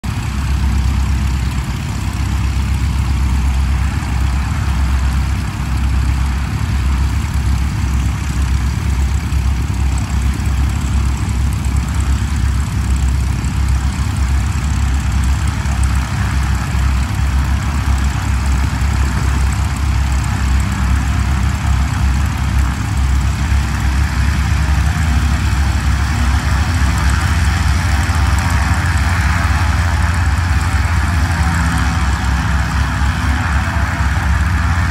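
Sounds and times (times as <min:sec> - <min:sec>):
higher engine sound: 0:00.0 - 0:34.9
piston aircraft engines rumbling: 0:00.0 - 0:34.9.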